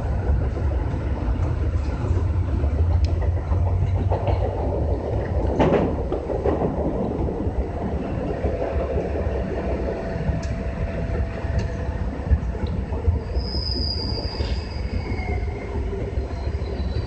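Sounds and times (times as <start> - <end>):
train wheels and motors rumbling: 0.0 - 17.0.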